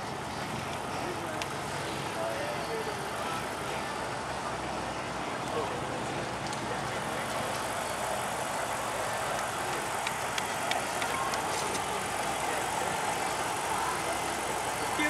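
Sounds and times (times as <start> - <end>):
car engine idling: 0.0 - 15.0
outdoor crowd noise: 0.0 - 15.0.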